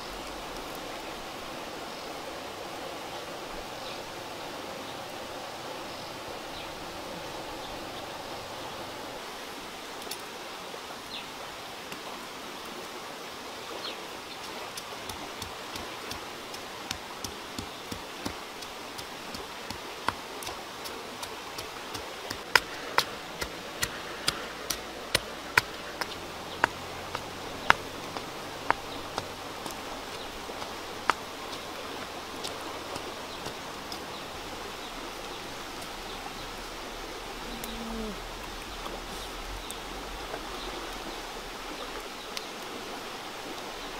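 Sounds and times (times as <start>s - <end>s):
flowing water hiss: 0.0s - 43.9s.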